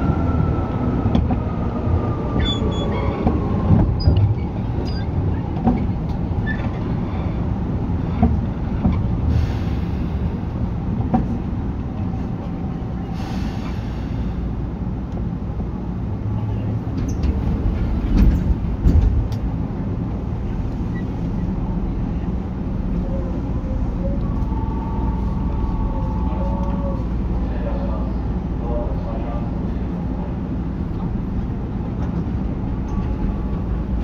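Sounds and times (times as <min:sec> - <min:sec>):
wheels rumbling on rails: 0:00.0 - 0:34.0.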